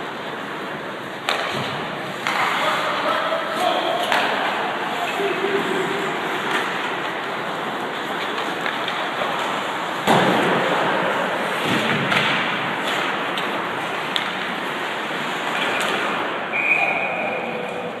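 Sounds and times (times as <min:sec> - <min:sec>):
puck clacking against boards: 0:00.2 - 0:05.4, 0:06.2 - 0:16.3.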